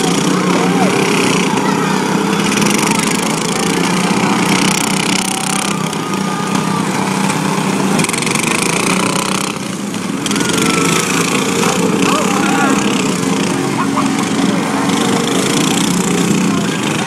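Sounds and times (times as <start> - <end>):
lawn mower engines running: 0.0 - 17.0.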